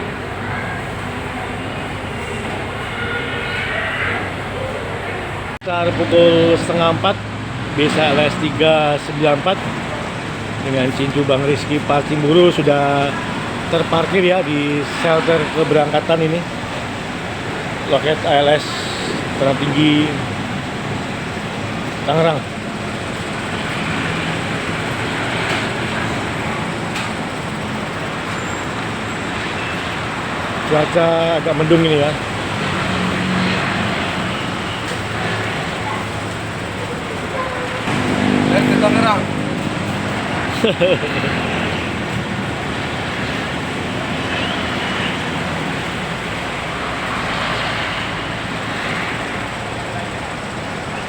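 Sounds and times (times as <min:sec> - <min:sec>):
road traffic noise: 0:00.0 - 0:51.0
vehicle engine rumble: 0:00.0 - 0:51.0.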